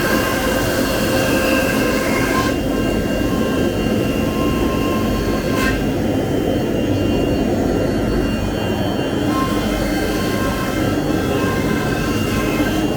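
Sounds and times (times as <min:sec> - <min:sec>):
cnc router running: 0:00.0 - 0:12.9.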